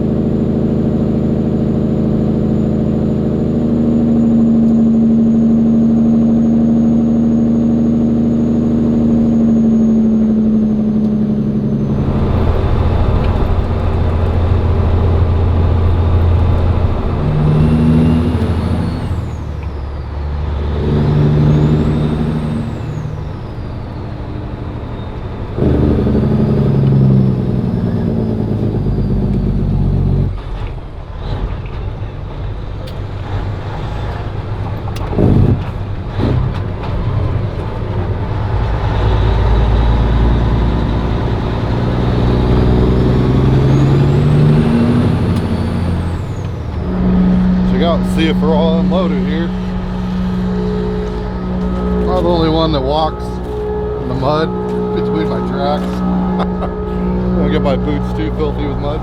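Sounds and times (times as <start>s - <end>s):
truck diesel engine under load: 0.0s - 59.0s.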